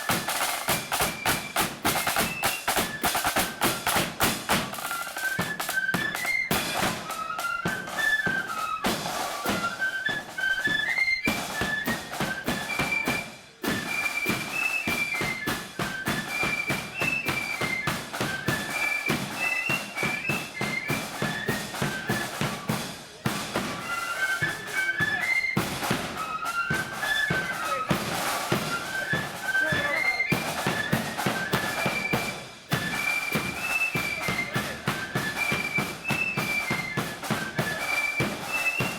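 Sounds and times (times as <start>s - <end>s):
flutes playing a melody: 0.0s - 38.9s
rapid snare drumming: 0.0s - 38.9s.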